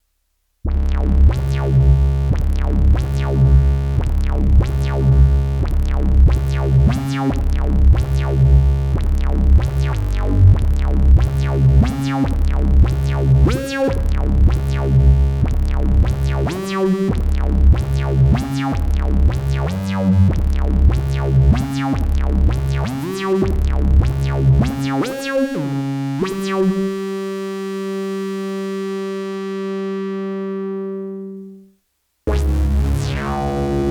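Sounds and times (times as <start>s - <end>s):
analog synthesizer bass phrase: 0.7s - 31.7s, 32.3s - 33.9s.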